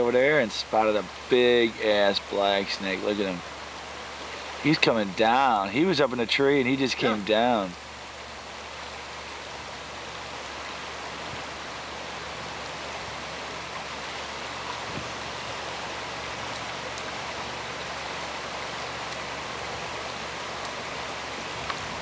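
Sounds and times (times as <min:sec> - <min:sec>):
fast river current rushing: 0:00.0 - 0:22.0.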